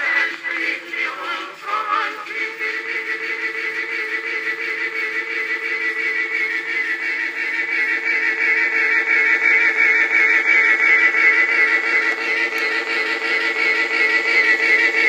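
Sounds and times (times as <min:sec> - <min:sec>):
phonograph wavering held note: 0:00.0 - 0:15.0.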